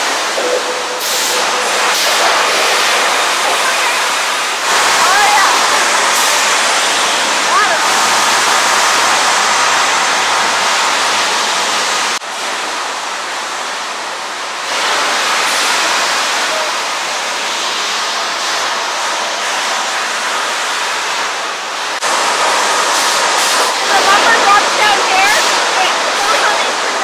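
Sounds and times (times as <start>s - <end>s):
sawmill machinery running: 0.0s - 27.0s.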